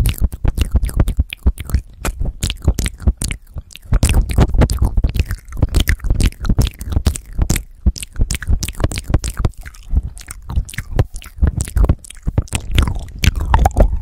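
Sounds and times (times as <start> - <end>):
lip smacks and tongue clicks: 0.0 - 14.0.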